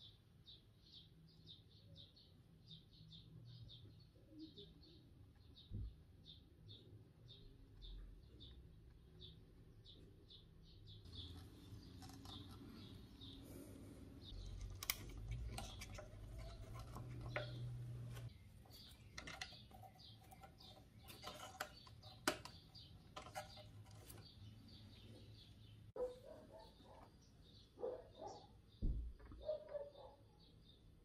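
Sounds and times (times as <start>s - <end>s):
faint bird chirps: 0.0s - 31.0s.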